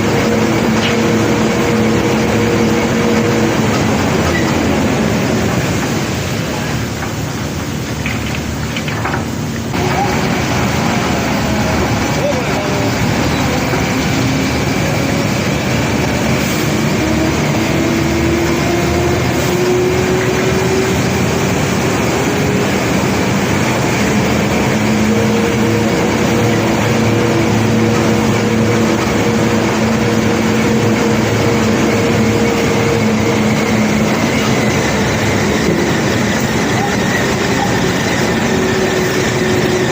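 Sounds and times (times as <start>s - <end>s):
unloading machinery running: 0.0s - 39.9s.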